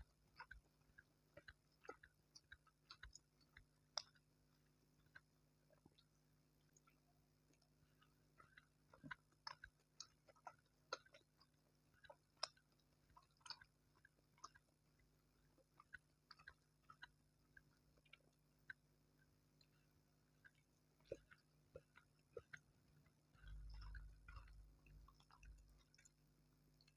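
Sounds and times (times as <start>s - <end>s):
person chewing food: 0.0s - 26.9s.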